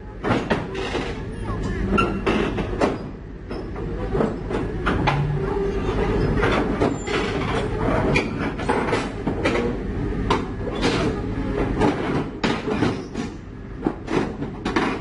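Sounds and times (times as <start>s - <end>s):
steel tracks clanking on metal: 0.1s - 15.0s.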